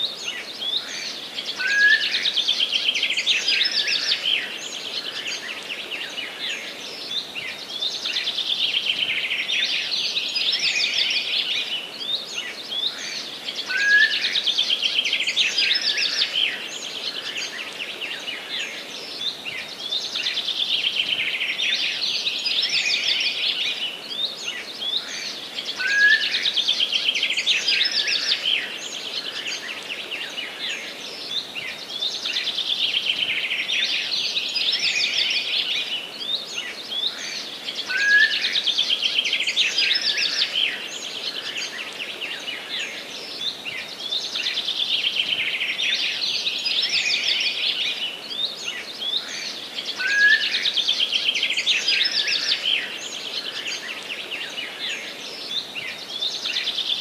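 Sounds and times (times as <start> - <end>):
forest birds singing: 0.0 - 57.0.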